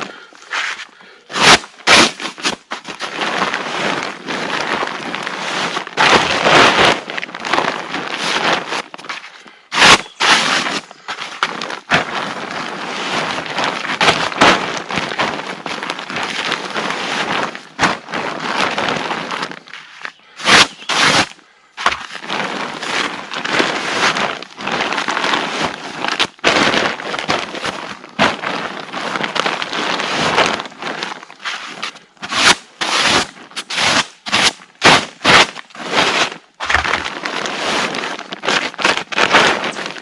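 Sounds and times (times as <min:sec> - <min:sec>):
camping gear rustling and crinkling: 0:00.0 - 0:40.0.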